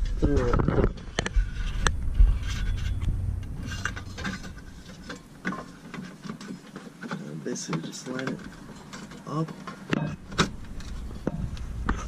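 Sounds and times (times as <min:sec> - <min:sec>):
wires and plastic trim rubbing: 0:00.0 - 0:12.0.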